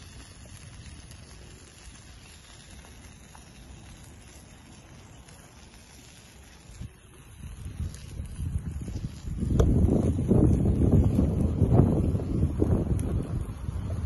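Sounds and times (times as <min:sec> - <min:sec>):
campfire crackles: 0:00.0 - 0:14.0
fire low rumble: 0:00.0 - 0:14.0.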